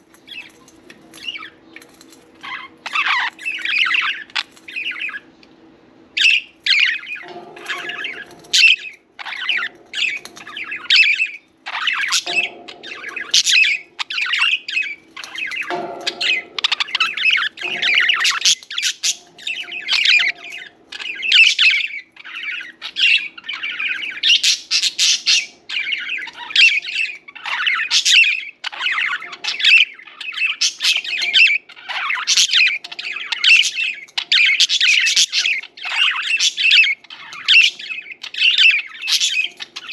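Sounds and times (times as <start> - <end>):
budgerigars chirping and chattering: 0.0 - 5.4, 6.2 - 39.9.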